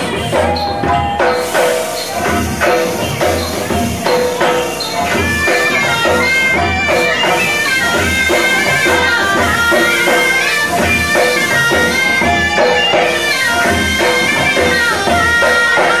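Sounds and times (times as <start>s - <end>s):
steady drum beat: 0.0s - 16.0s
wind instrument melody: 0.0s - 16.0s.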